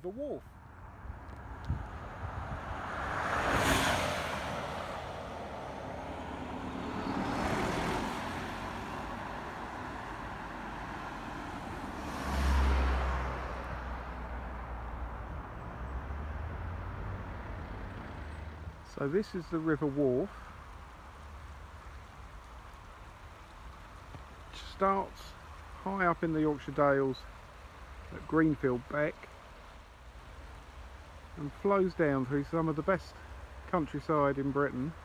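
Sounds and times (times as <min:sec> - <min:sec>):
cars passing: 0:00.2 - 0:35.0.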